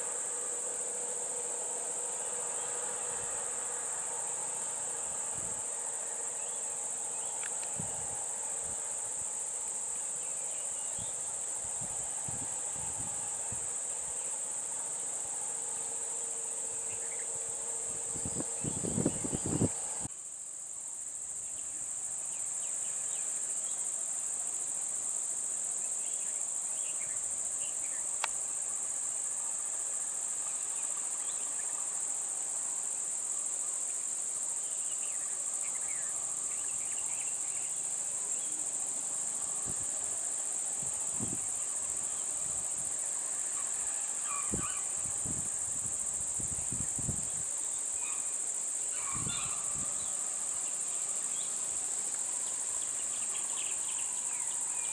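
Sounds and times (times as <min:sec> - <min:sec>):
high-pitched insect drone: 0:00.0 - 0:20.1, 0:21.0 - 0:54.9.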